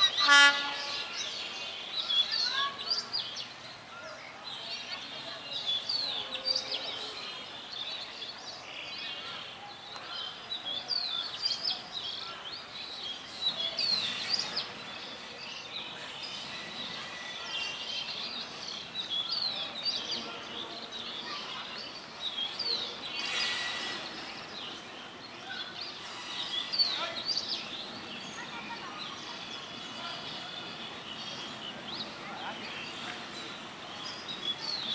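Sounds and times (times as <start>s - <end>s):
birds chirping: 0.0s - 34.9s
outdoor background noise: 0.0s - 34.9s.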